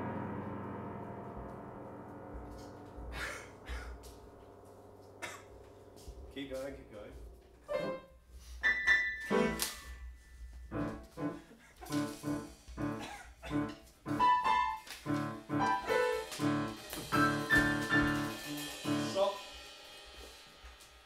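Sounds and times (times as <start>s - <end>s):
piano chords: 0.0s - 9.7s, 10.7s - 19.4s.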